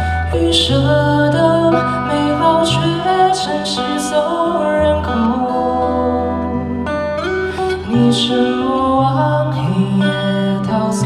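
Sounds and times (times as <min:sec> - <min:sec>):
man singing into a microphone: 0:00.0 - 0:06.6, 0:07.7 - 0:11.0
guitar accompaniment: 0:00.0 - 0:11.0.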